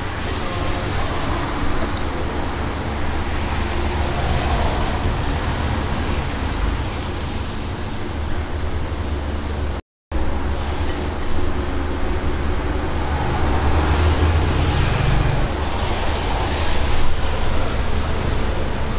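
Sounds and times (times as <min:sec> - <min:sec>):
low street rumble: 0:00.0 - 0:18.9.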